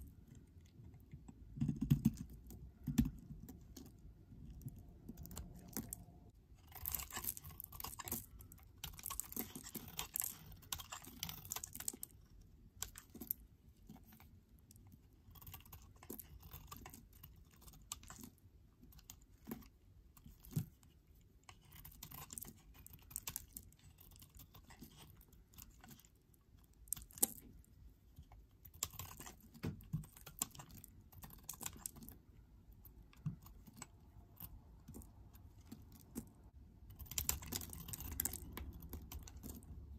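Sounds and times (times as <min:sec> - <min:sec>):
knife blade shaving soap: 0:00.0 - 0:27.6, 0:28.2 - 0:39.9.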